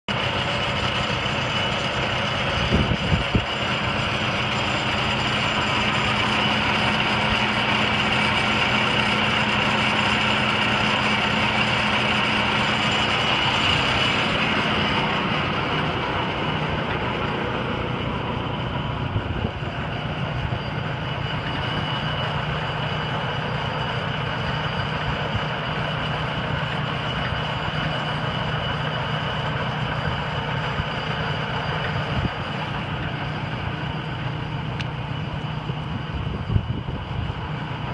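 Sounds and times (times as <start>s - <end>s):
wood chipper running: 0.1s - 37.9s.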